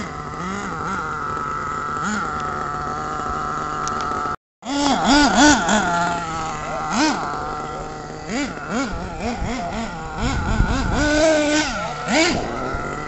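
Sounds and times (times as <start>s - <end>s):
toy truck engine revving: 0.0s - 13.0s.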